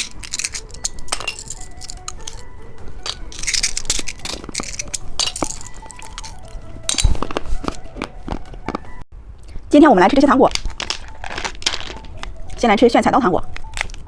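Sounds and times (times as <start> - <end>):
candy wrapper crinkling: 0.0 - 8.9, 10.5 - 12.6, 13.4 - 14.0
soft background music: 0.0 - 9.1, 9.7 - 14.0.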